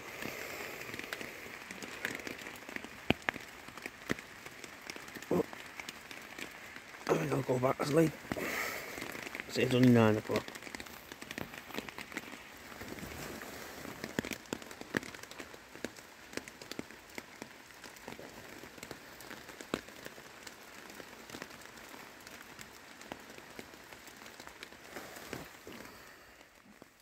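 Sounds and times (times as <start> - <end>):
rain on a tarp: 0.0 - 27.0.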